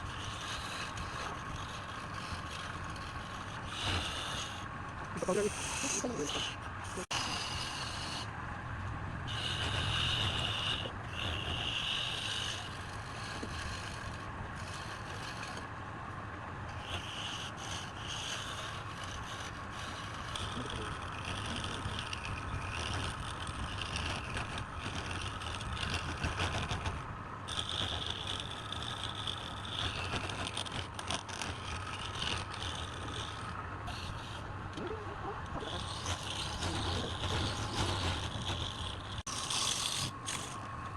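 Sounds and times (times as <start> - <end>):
turning tool scraping wood: 0.0 - 8.3, 9.3 - 15.7, 16.7 - 40.9
wood lathe humming: 0.0 - 8.3, 9.3 - 15.7, 16.7 - 40.9.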